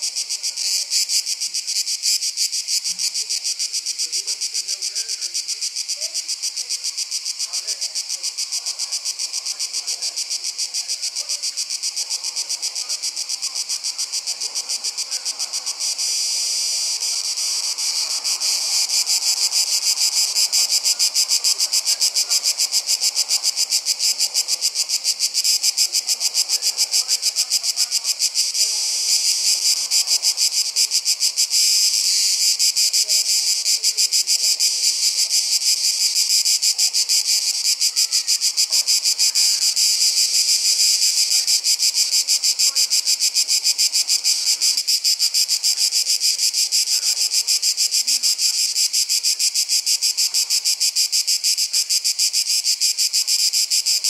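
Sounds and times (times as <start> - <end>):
insects chirping in chorus: 0.0 - 54.0.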